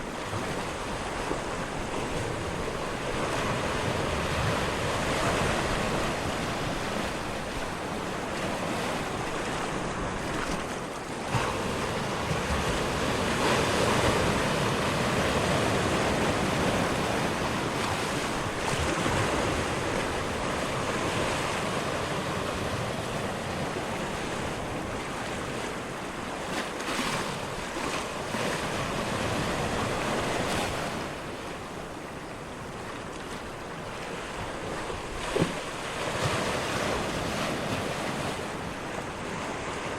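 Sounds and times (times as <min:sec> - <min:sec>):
ocean waves rushing: 0:00.0 - 0:39.9
wind: 0:00.0 - 0:39.9.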